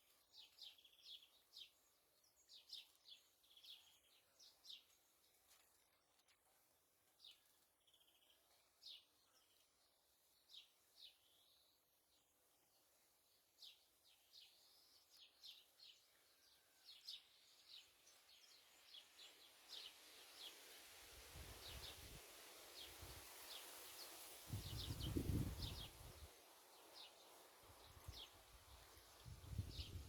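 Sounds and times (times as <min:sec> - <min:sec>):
small birds chirping: 0:00.0 - 0:06.5, 0:07.1 - 0:20.8, 0:22.8 - 0:30.0.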